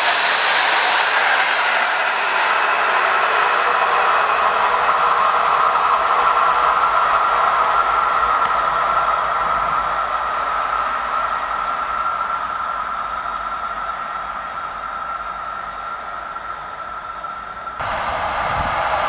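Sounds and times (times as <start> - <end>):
deep train rumble: 0.0 - 19.0
electric train rolling noise: 0.0 - 19.0
steady high-pitched hum: 0.0 - 19.0.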